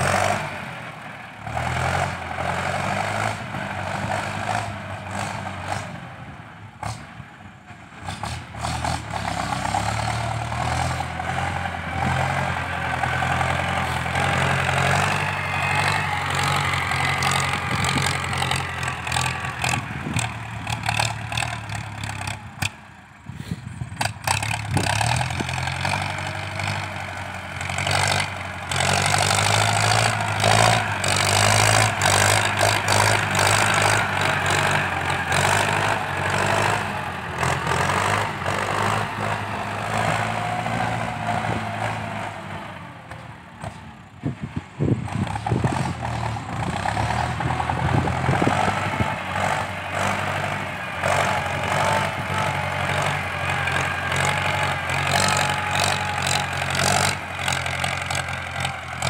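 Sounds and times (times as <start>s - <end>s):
tractor diesel engine chugging: 0.0s - 59.0s.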